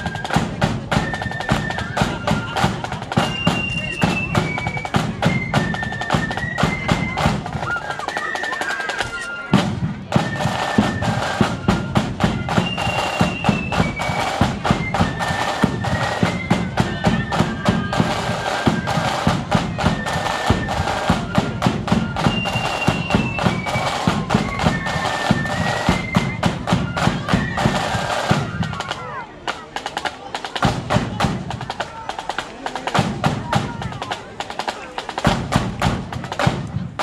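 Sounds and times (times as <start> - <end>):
flute melody: 0.0 - 37.0
snare and bass drums beating: 0.0 - 37.0.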